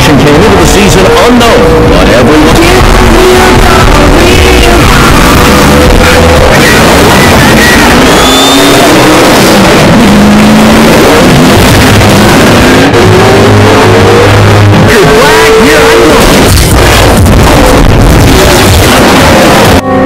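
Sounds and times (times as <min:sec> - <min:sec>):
distorted race car engine revving: 0:00.0 - 0:20.0.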